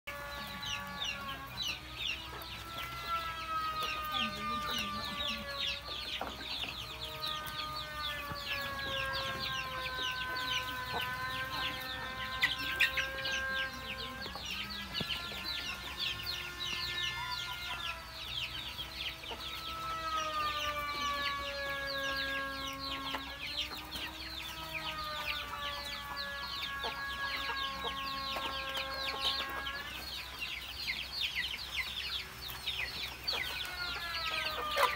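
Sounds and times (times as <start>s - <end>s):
chickens clucking: 0.1s - 34.9s
chicks peeping: 0.1s - 34.9s.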